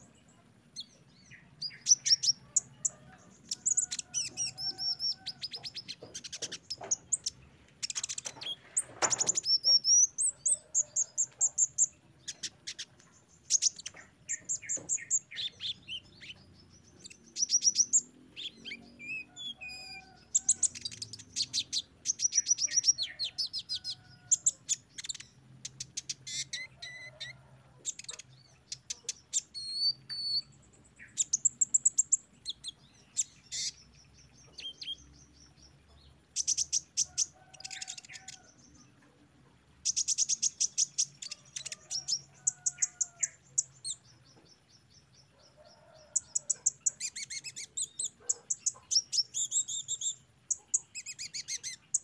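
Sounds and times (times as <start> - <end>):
sunbird chirping and trilling: 0.0 - 38.8, 39.8 - 52.0.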